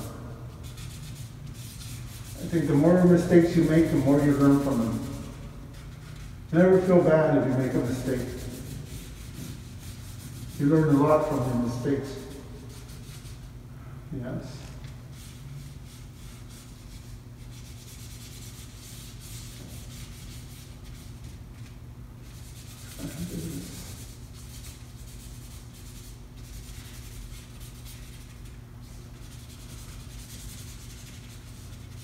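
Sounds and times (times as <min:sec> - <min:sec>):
marker rubbing on paper: 0:00.0 - 0:13.6, 0:15.1 - 0:32.0.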